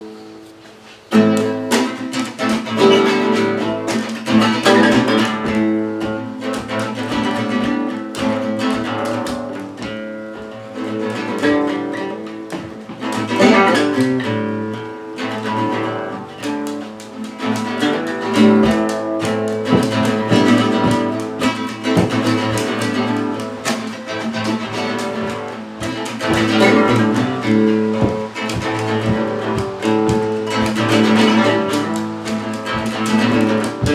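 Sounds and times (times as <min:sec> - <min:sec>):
acoustic guitar music: 0:00.0 - 0:33.9.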